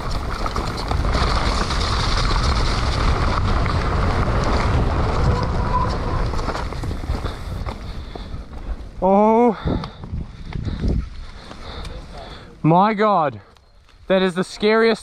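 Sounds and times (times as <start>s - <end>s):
wind buffeting microphone: 0.0s - 12.3s
bike rumbling and rattling: 0.0s - 13.0s.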